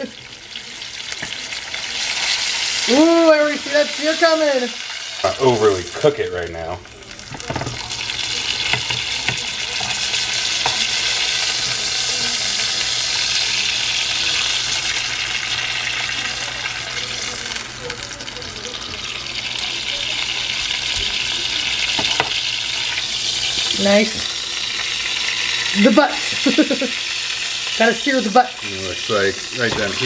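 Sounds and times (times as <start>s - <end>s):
meat sizzling in a frying pan: 0.0s - 30.0s.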